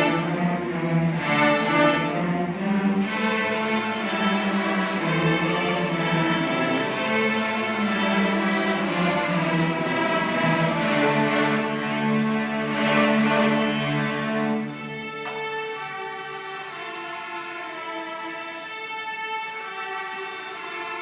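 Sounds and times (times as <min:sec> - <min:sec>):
string orchestra playing: 0:00.0 - 0:21.0.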